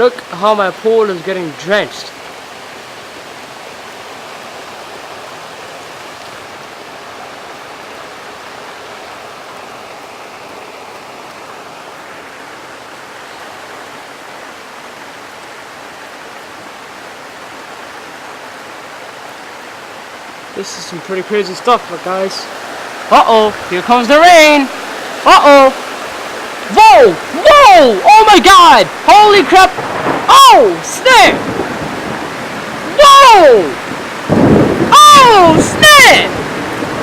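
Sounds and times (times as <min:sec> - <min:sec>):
heavy rain on a pool: 0:00.0 - 0:37.0.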